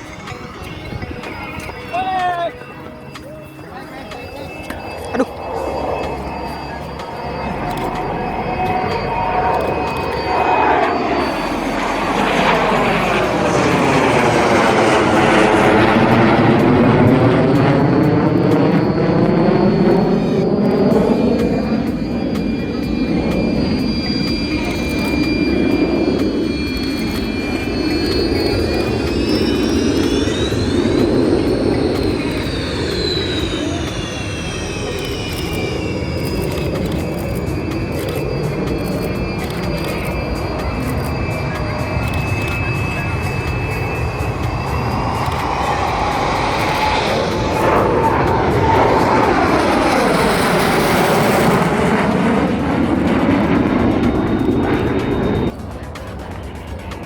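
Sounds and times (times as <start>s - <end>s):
jet engines roaring past: 0.0s - 57.0s.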